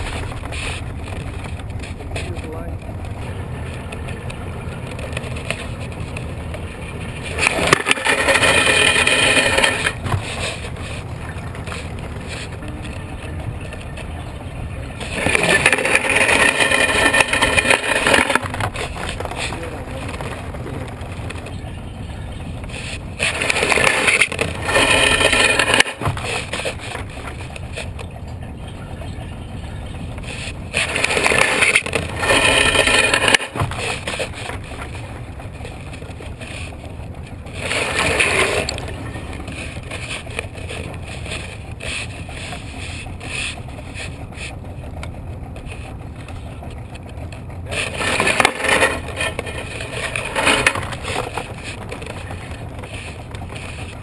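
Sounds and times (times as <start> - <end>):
outboard motor rumbling: 0.0 - 54.0.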